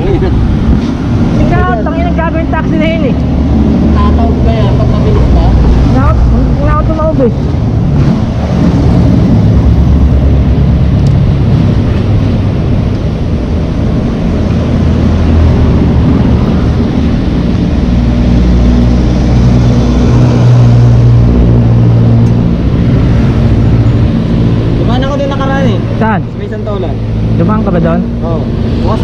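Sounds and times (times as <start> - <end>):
wind rush on microphone: 0.0 - 29.0.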